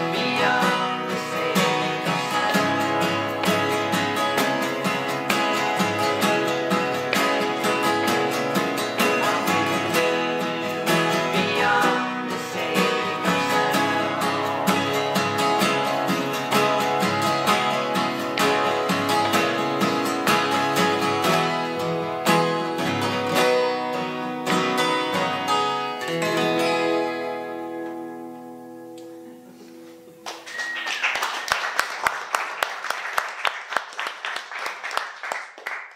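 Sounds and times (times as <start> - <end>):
acoustic guitars strumming and picking: 0.0 - 32.3.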